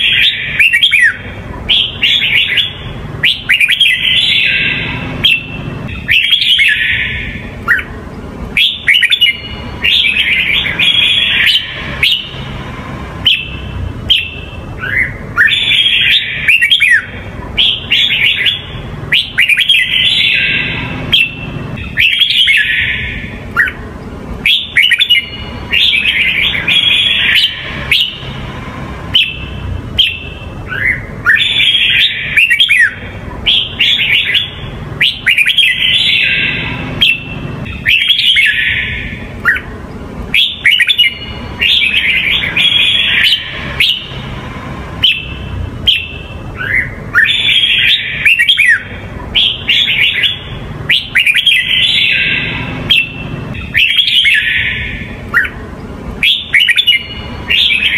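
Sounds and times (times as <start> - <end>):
bird singing warbled phrases: 0.0 - 57.9.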